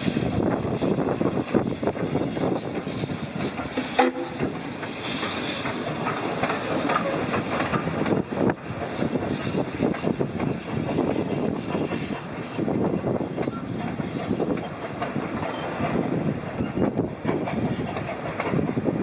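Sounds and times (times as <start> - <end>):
hiss of steam: 0.0 - 19.0
train wheels clattering over rails: 0.0 - 19.0.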